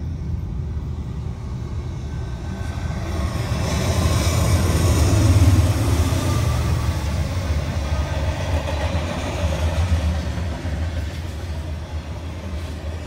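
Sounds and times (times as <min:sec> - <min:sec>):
diesel locomotive engine rumble: 0:00.0 - 0:13.0
wheel and rail noise: 0:00.0 - 0:13.0.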